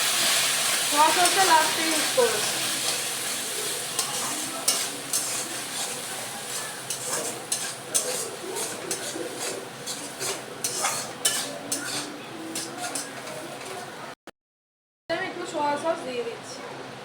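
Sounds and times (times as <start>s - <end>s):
food sizzling in a pan: 0.0s - 14.1s
utensil scraping a pan: 0.1s - 14.0s.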